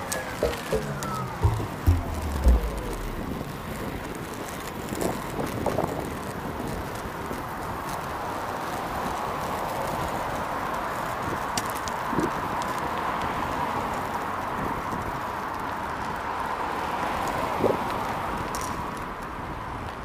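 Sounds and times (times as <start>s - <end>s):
skate wheels rolling on asphalt: 3.3s - 20.0s.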